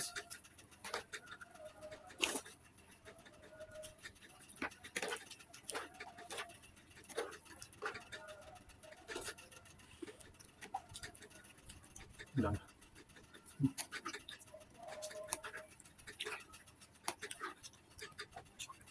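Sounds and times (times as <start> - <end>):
chewing and mouth noises: 0.0 - 18.9.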